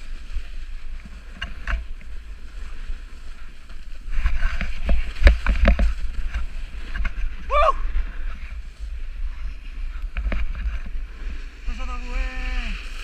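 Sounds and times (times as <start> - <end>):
snowboard scraping over snow: 0.0 - 13.0.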